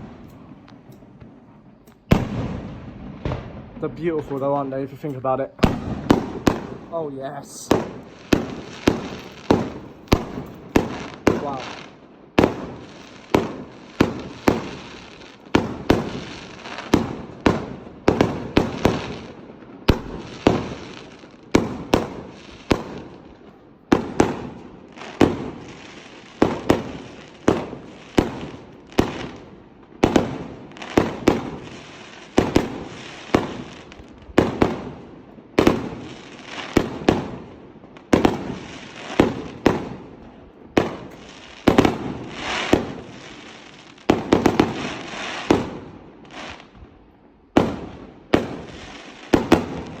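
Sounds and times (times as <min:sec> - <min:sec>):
fireworks bursting with bangs: 0:00.0 - 0:50.0
fireworks crackling: 0:00.0 - 0:50.0.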